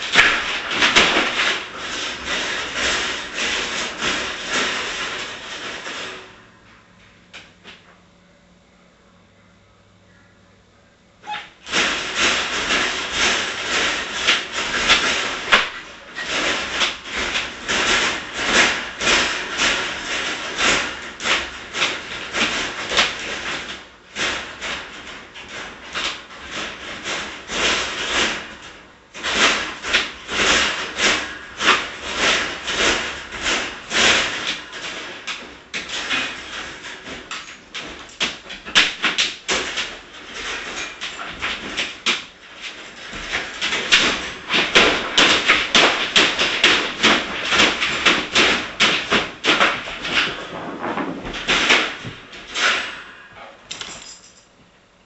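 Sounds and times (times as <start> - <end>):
dog scratching at enclosure: 0.0 - 6.4, 11.2 - 53.6.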